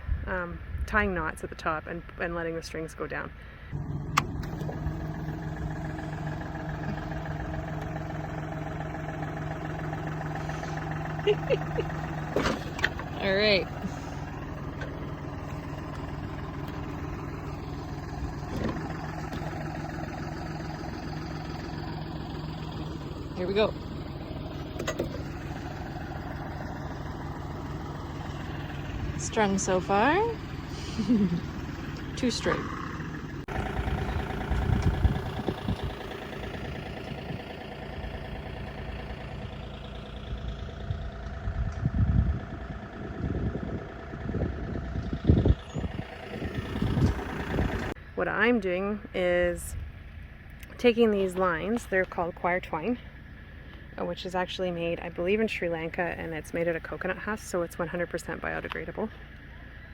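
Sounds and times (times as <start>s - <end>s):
engine idling: 3.4s - 59.9s.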